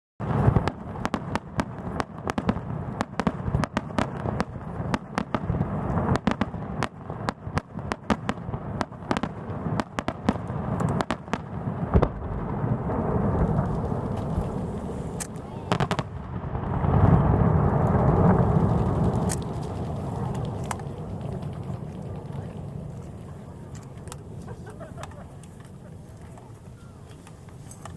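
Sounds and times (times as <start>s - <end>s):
fireworks cracking: 0.2s - 27.9s
low rumble of fireworks booms: 0.2s - 27.9s.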